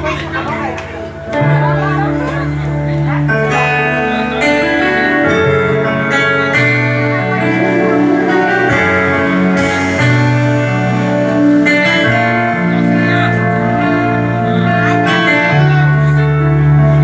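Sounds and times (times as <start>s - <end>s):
keyboard chords over bass: 0.0s - 17.0s.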